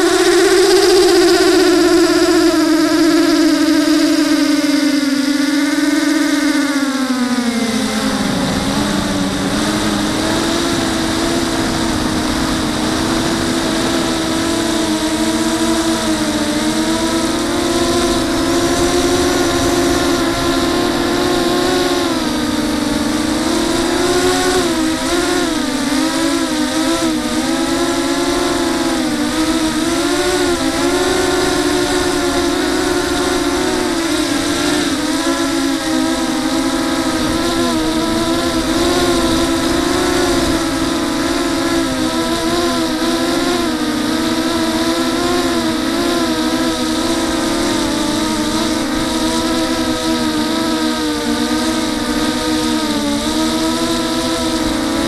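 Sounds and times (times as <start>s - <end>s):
quadcopter buzzing whine: 0.0s - 55.0s.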